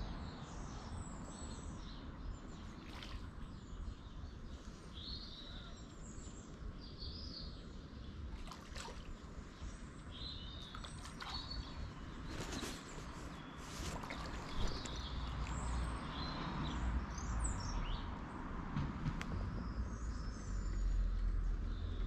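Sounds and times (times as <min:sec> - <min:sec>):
songbird singing: 0:00.0 - 0:18.6, 0:19.2 - 0:22.0.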